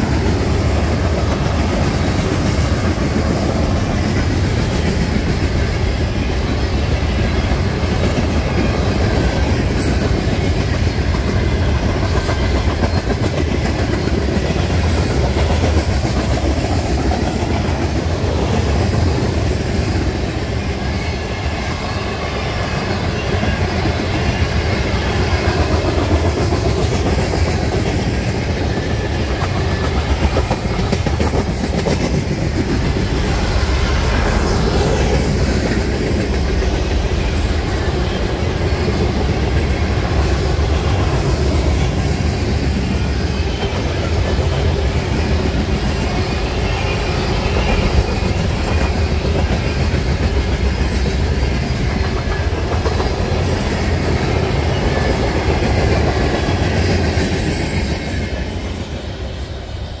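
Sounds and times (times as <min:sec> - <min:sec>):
freight train rumbling past: 0:00.0 - 1:00.0.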